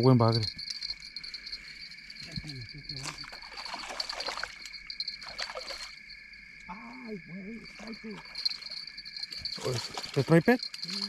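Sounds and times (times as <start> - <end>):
crickets chirping: 0.0 - 11.0
rustling and splashing water: 0.4 - 6.2, 7.6 - 11.0.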